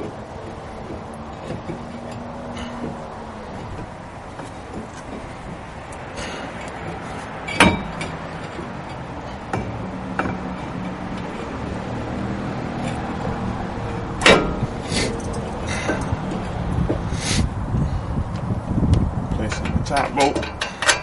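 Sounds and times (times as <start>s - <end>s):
metal clank: 0.0s - 11.9s, 12.7s - 17.1s, 19.5s - 21.0s
light metal knocks: 0.0s - 17.1s
steady background hum: 0.0s - 21.0s.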